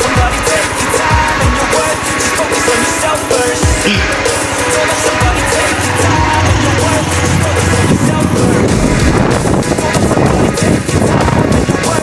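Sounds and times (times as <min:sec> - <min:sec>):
pop music with singing: 0:00.0 - 0:12.0
steady bass line: 0:00.0 - 0:12.0.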